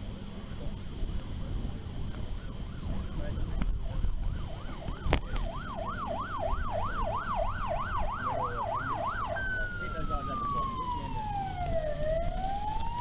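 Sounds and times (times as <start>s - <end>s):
siren yelping: 2.1s - 13.0s.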